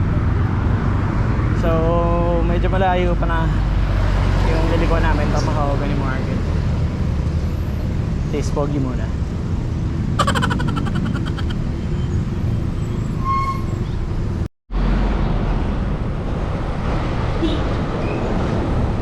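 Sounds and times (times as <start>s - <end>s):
traffic: 0.0s - 19.0s.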